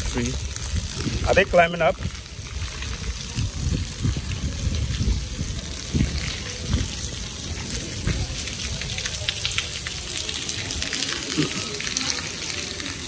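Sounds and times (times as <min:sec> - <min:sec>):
rain on stone paving: 0:00.0 - 0:13.0.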